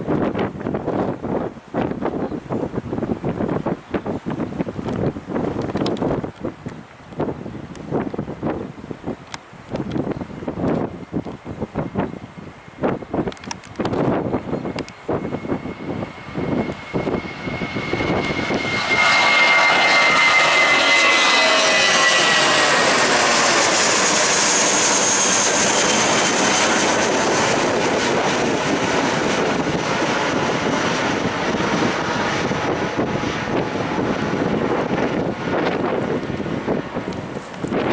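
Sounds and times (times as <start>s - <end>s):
jet engines roaring at takeoff: 0.0s - 37.9s
wind buffeting microphone: 0.0s - 37.9s.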